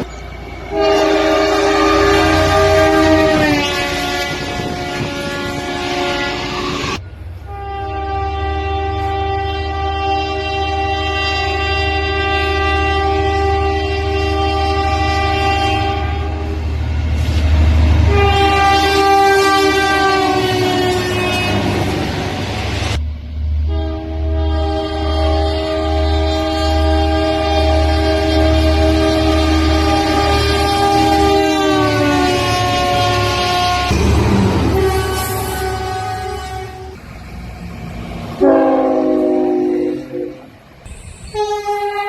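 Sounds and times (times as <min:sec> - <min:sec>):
train rumble: 0:00.0 - 0:42.0
locomotive air horn chords: 0:00.7 - 0:23.0, 0:23.6 - 0:37.0, 0:38.4 - 0:42.0.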